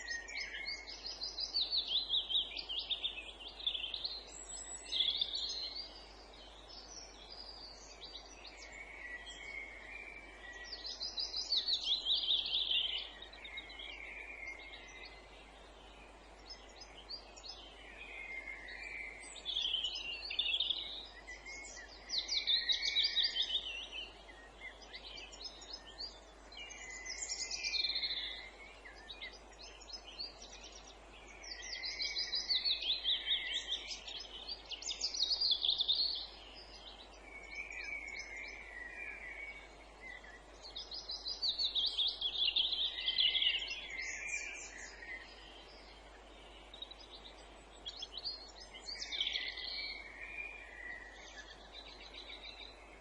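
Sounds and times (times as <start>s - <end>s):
faint background hiss: 0.0s - 53.0s
songbirds trilling: 0.0s - 53.0s.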